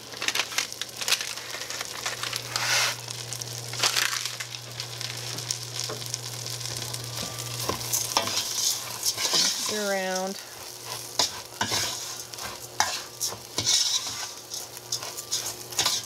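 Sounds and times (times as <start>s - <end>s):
food sizzling in butter: 0.0s - 16.0s.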